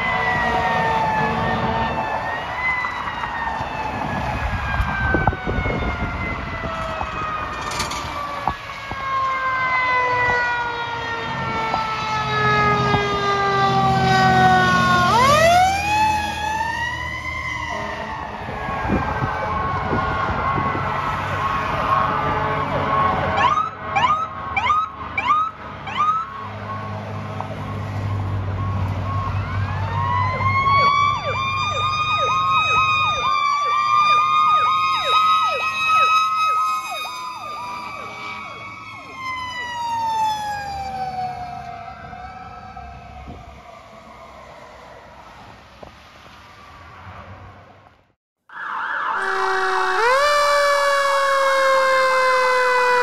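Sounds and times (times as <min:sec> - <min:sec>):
fire engine siren: 0:00.0 - 0:47.8, 0:48.5 - 0:53.0.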